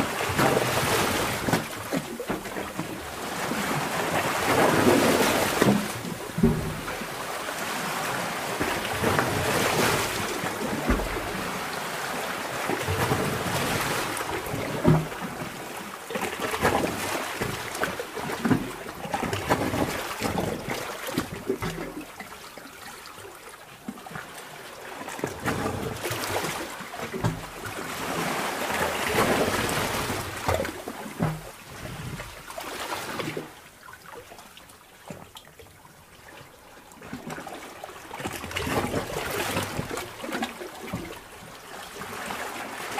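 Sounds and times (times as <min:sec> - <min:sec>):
underwater water surging: 0:00.0 - 0:42.9.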